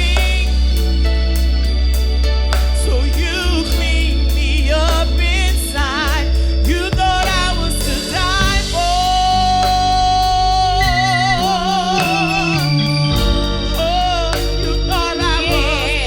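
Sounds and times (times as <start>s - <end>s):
bass: 0.0s - 16.0s
gospel solo singing: 0.0s - 16.0s
organ: 0.0s - 16.0s.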